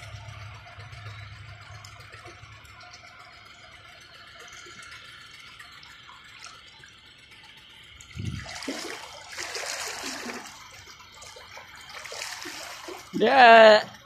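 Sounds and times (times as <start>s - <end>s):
floodwater sloshing and splashing: 0.6s - 14.0s.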